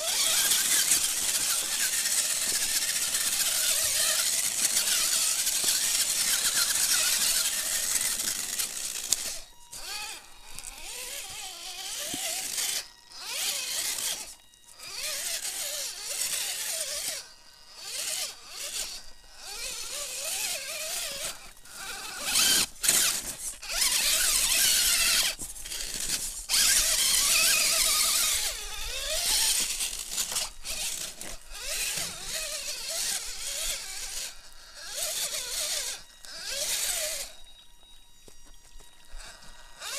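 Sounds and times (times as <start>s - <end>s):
electric motor and gearbox whining: 0.0s - 39.9s.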